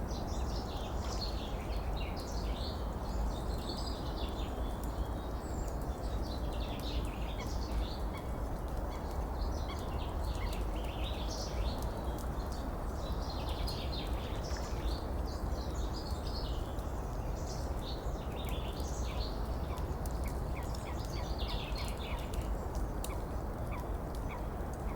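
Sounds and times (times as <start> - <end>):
small birds chirping and twittering: 0.1 - 24.9.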